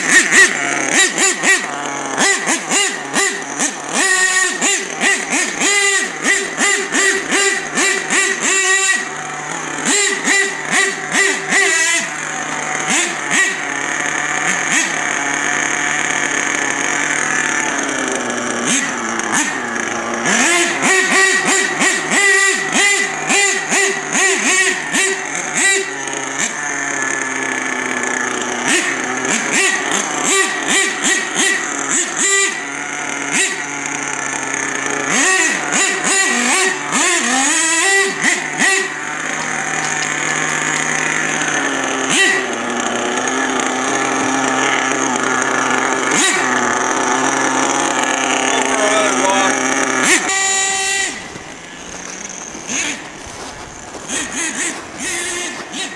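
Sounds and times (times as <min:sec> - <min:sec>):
rc truck nitro engine revving: 0:00.0 - 0:55.9.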